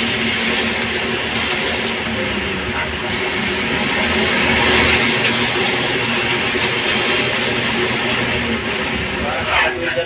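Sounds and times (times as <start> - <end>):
lathe turning metal: 0.0 - 9.4.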